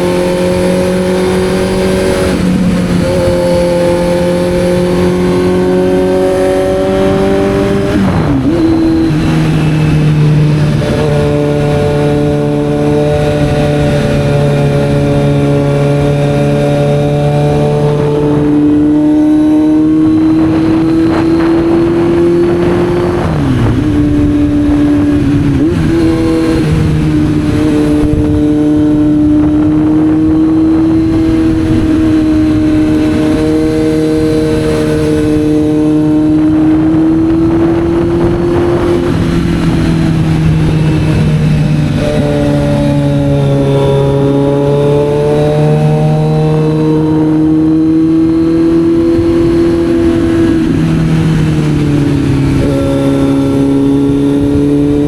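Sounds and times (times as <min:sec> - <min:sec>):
motorcycle engine accelerating: 0:00.0 - 0:55.0
motorcycle gear changes: 0:00.0 - 0:55.0.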